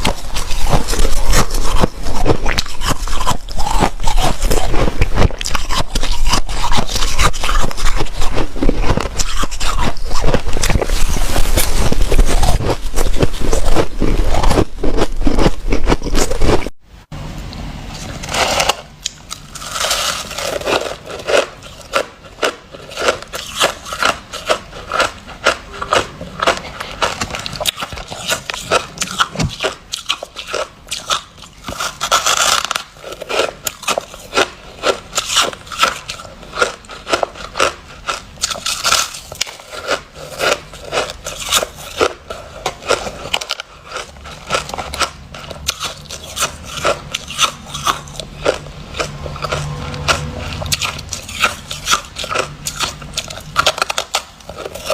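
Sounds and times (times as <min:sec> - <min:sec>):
ice being chewed crunching: 0:00.0 - 0:16.8, 0:18.0 - 0:54.9.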